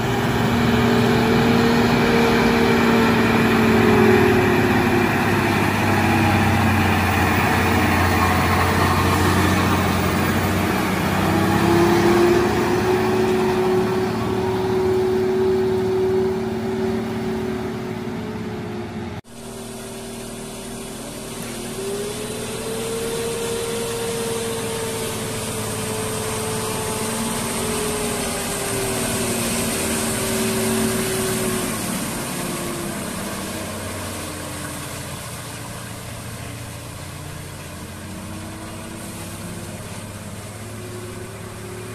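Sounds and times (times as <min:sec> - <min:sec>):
truck diesel engine working hard: 0:00.0 - 0:41.9.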